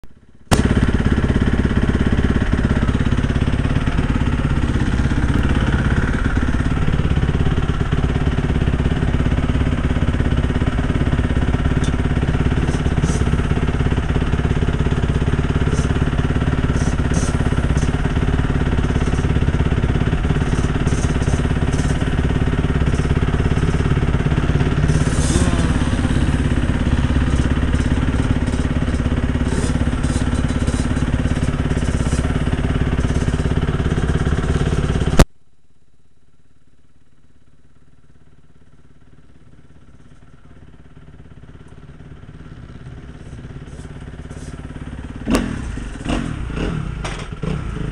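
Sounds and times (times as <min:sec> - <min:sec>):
motorcycle engine idling: 0:00.0 - 0:35.3, 0:36.4 - 0:47.9.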